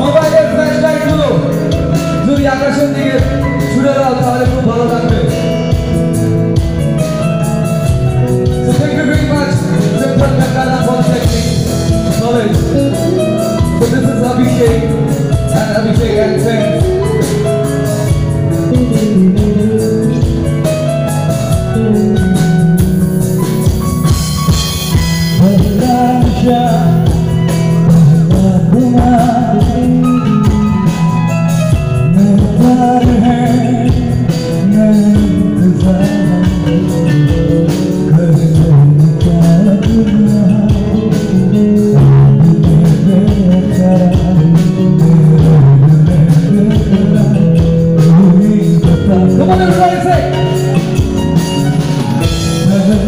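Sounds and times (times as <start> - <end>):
man singing lead: 0.0 - 23.2, 24.8 - 53.0
drum kit: 0.0 - 53.0
electric bass guitar: 0.0 - 53.0
keyboards: 0.0 - 53.0.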